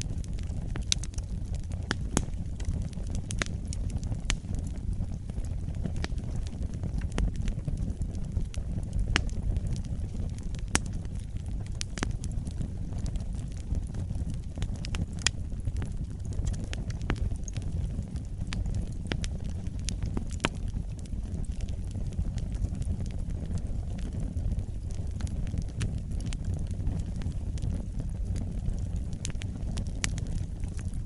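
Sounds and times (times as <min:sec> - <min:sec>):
fire crackles and pops: 0:00.0 - 0:31.0
fire flames rumbling: 0:00.0 - 0:31.0.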